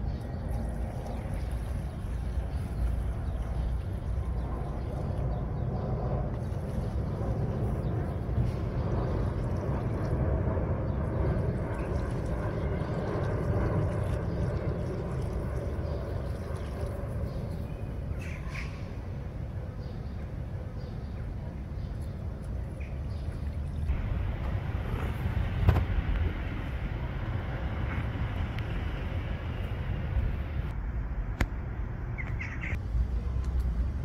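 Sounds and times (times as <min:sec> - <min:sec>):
low street rumble: 0:00.0 - 0:34.0.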